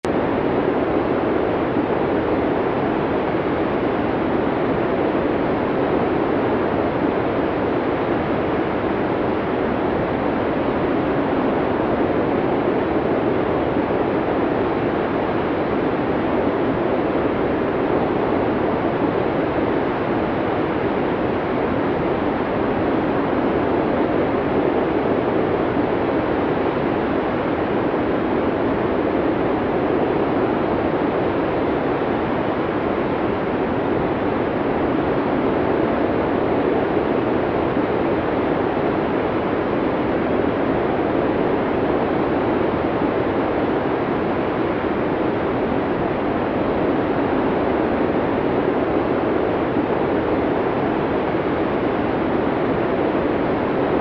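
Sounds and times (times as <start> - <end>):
snowstorm wind blowing: 0.0 - 54.0.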